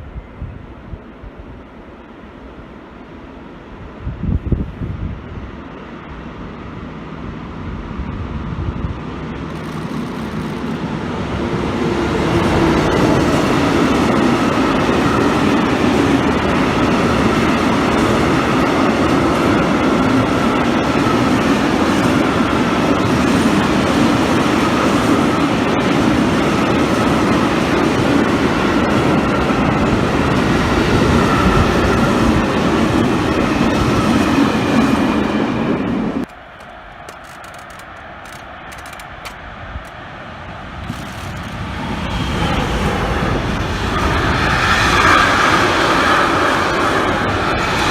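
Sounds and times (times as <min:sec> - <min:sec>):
train wheels on rails: 0:04.2 - 0:47.9.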